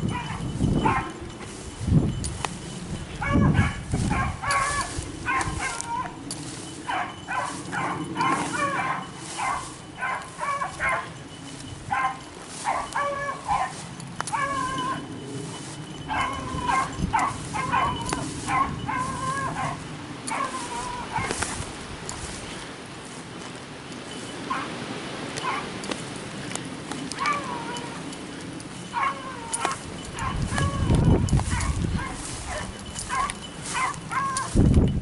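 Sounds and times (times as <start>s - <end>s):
distant beagles baying: 0.0s - 34.6s.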